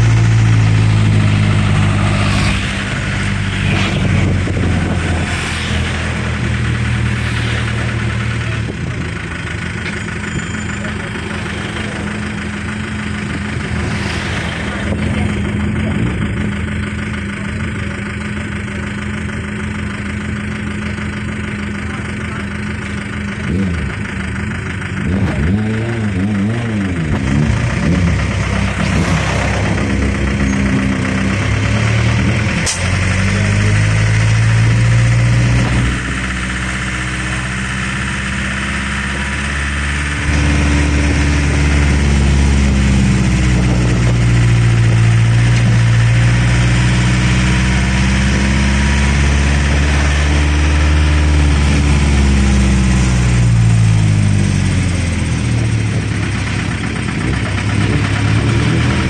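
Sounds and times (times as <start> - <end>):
road train engine running: 0.0 - 59.0.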